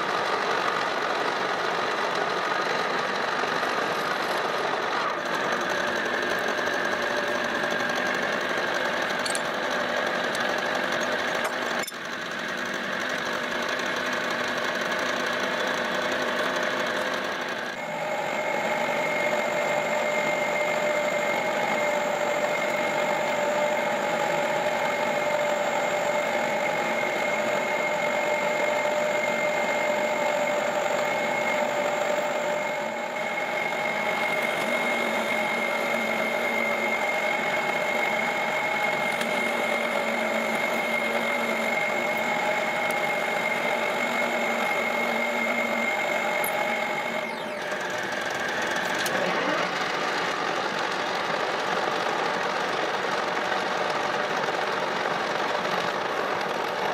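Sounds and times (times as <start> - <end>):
drill press whining: 0.0 - 56.9
metal lathe spinning: 0.0 - 56.9.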